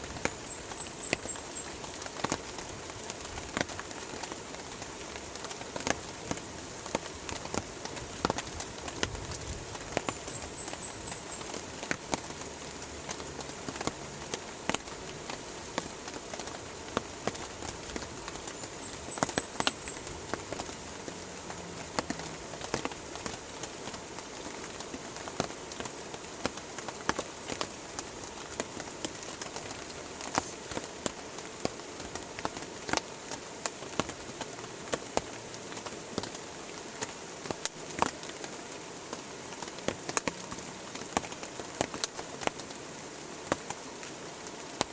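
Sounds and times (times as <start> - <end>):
heavier raindrops ticking: 0.0 - 44.9
steady rain falling: 0.0 - 44.9.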